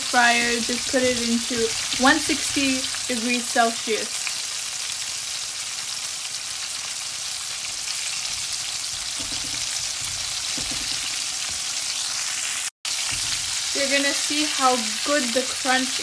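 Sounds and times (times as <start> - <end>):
chicken wings deep-frying in oil: 0.0 - 16.0.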